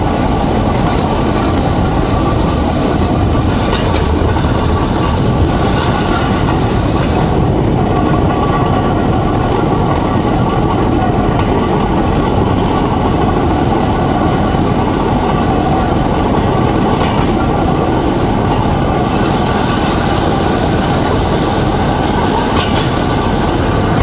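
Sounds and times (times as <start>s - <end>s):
sharp clacks: 0.0s - 18.2s, 18.8s - 24.0s
rail trolley engine: 0.0s - 24.0s
wheels on rail: 0.0s - 24.0s.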